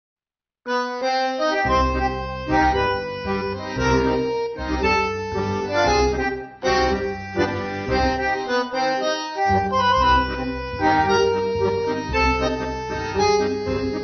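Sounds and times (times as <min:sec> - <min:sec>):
tango music over sound system: 0:00.7 - 0:14.0.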